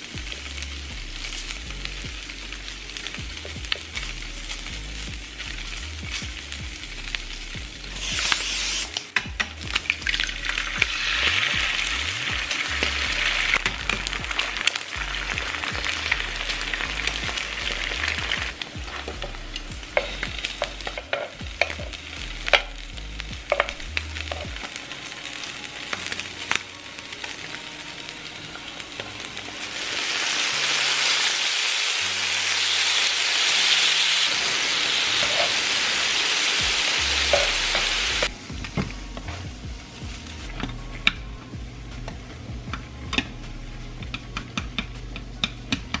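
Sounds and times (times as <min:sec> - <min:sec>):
meat sizzling on a griddle: 0:00.0 - 0:45.8.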